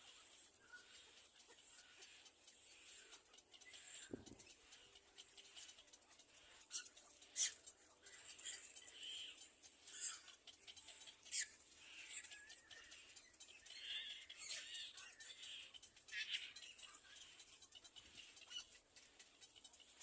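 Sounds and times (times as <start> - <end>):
nestling birds cheeping: 0.0 - 20.0.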